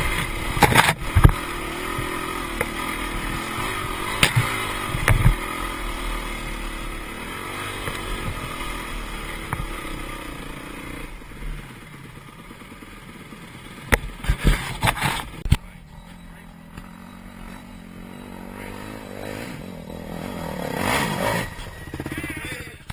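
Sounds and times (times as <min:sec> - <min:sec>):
dirt bike engine running: 0:00.0 - 0:22.9.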